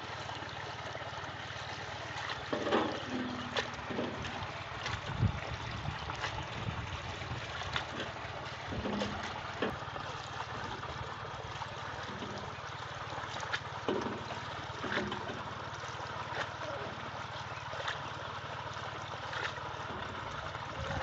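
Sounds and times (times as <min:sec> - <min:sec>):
steady low hum: 0:00.0 - 0:21.0
water sloshing and splashing: 0:00.0 - 0:21.0.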